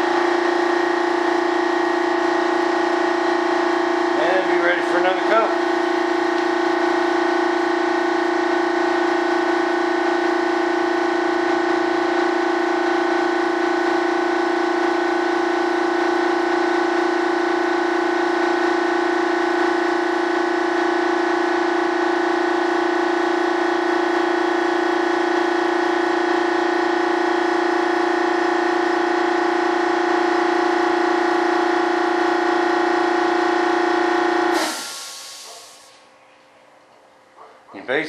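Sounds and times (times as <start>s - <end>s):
steady droning hum: 0.0s - 38.0s.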